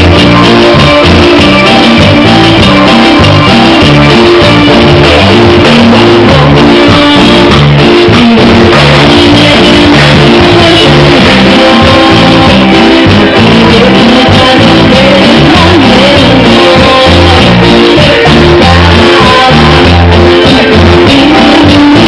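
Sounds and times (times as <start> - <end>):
drums: 0.0 - 22.0
electric guitar: 0.0 - 22.0
live band playing: 0.0 - 22.0
woman singing lead: 0.1 - 22.0.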